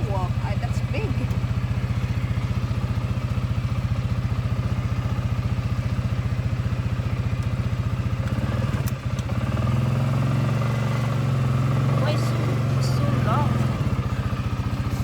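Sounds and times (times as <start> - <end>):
four-wheeler engine running: 0.0 - 15.0.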